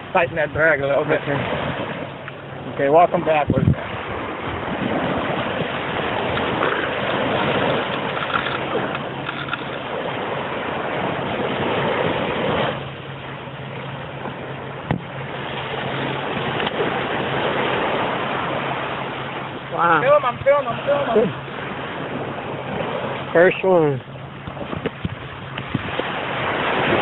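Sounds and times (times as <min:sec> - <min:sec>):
surf breaking on beach: 0:00.0 - 0:27.0.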